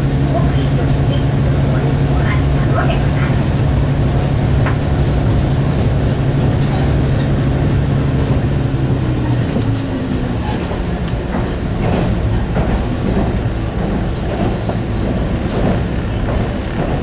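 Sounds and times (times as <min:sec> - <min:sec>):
railcar diesel engine running: 0:00.0 - 0:17.0.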